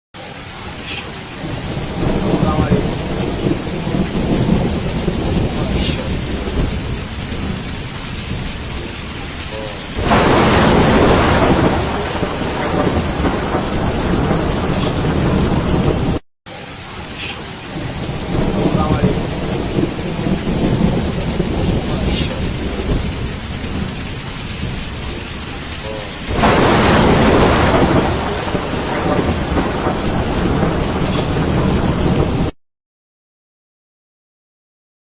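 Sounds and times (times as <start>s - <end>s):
heavy rain: 0.2s - 32.6s
thunder rumbling: 0.5s - 16.2s, 16.9s - 32.6s.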